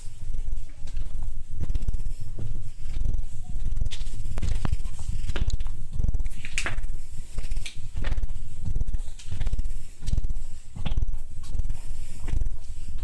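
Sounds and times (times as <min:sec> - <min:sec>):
footsteps in a rock tunnel: 0:00.0 - 0:13.0
microphone handling rumble: 0:00.0 - 0:13.0.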